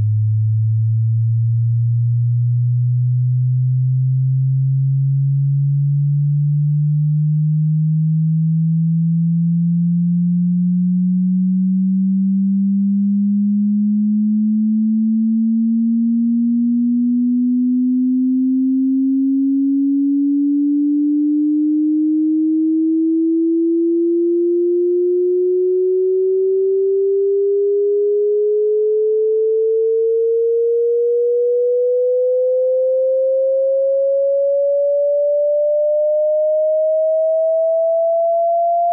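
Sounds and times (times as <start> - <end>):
sine tone gliding upward: 0.0 - 38.9.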